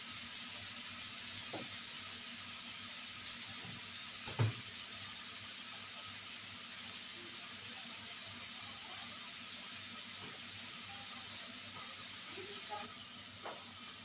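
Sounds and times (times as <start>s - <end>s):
meat and onions sizzling in a wok: 0.0s - 14.0s.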